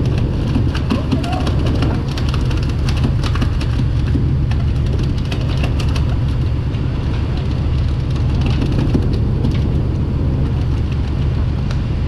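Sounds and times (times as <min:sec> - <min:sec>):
boat engine rumbling: 0:00.0 - 0:12.0
water splashing along hull: 0:00.0 - 0:12.0.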